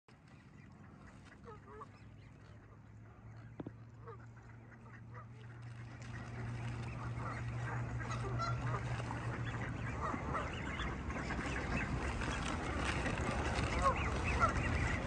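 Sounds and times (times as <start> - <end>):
ducks quacking: 0.2 - 15.0
geese honking: 0.3 - 15.0.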